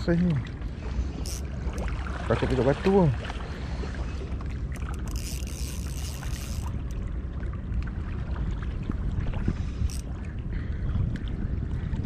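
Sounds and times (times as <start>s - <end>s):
water lapping at shore: 0.0s - 12.0s
wind buffeting microphone: 0.0s - 12.0s.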